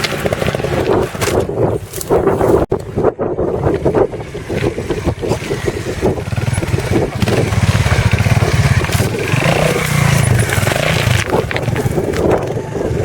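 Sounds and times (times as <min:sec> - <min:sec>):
motorcycle engine revving: 0:00.0 - 0:02.0, 0:03.5 - 0:13.0.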